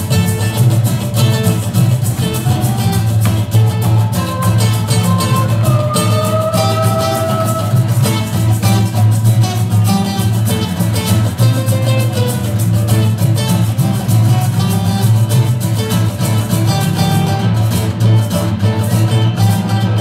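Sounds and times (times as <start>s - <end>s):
acoustic guitars strumming: 0.0s - 20.0s
upright double bass: 0.0s - 20.0s.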